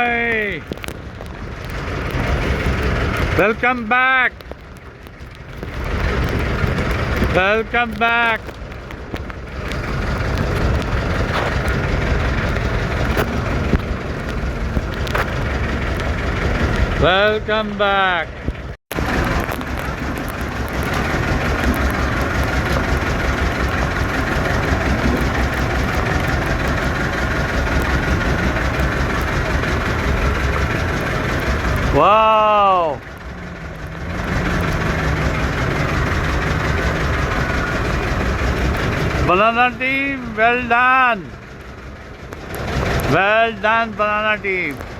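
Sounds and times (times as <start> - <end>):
motorboat engine rumbling: 0.0 - 44.9.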